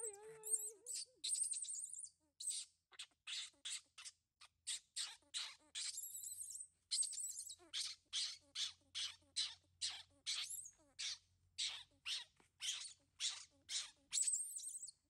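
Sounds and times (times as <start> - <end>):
baby monkey squeaking: 0.0 - 14.9.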